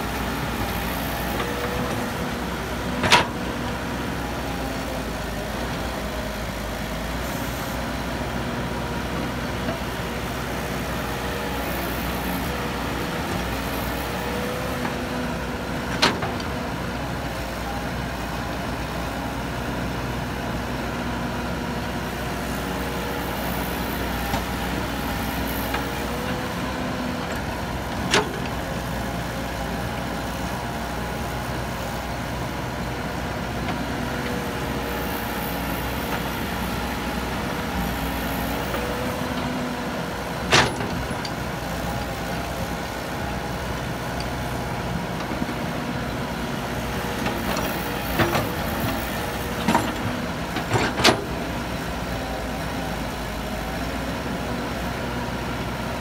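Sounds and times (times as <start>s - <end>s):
excavator diesel engine working: 0.0s - 56.0s.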